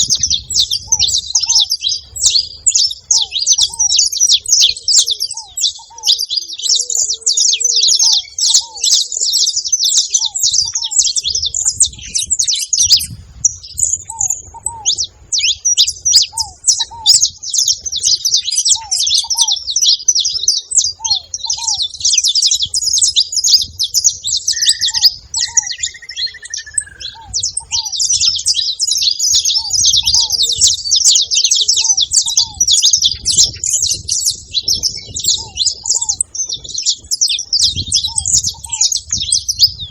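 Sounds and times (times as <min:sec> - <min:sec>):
finch singing: 0:00.0 - 0:39.9.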